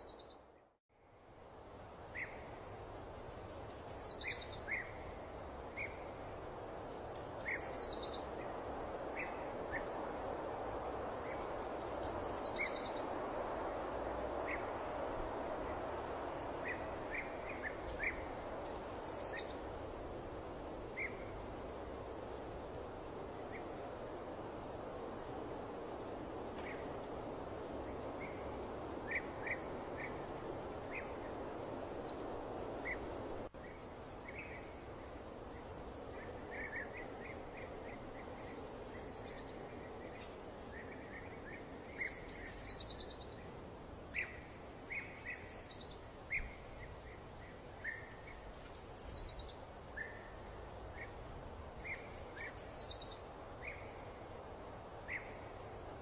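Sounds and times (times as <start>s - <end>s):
background hiss: 0.0s - 56.0s
songbirds chirping: 0.0s - 56.0s.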